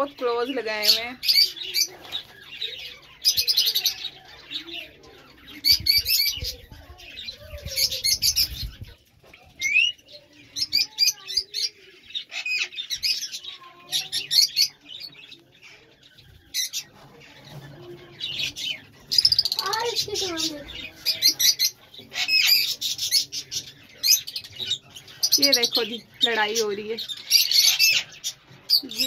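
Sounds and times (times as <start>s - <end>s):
lovebirds chirping: 0.0s - 29.0s.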